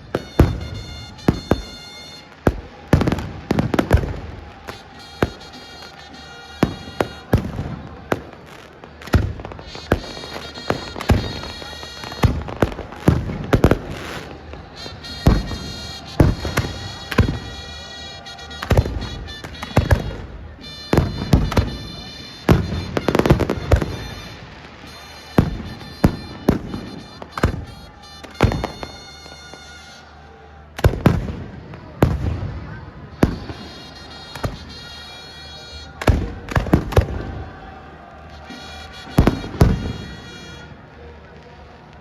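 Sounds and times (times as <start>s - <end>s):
fireworks bangs and cracks: 0.0s - 29.8s, 30.8s - 42.0s.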